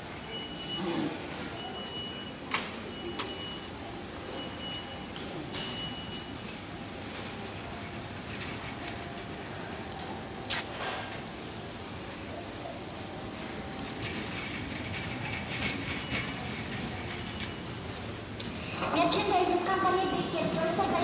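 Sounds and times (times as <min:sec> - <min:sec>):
store background noise: 0:00.0 - 0:21.0
shopping cart rattling: 0:02.9 - 0:21.0.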